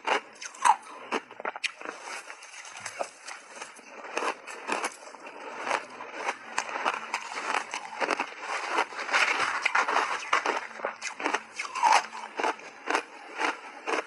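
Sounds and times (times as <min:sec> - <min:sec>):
chewing crunchy ice: 0:00.0 - 0:14.0.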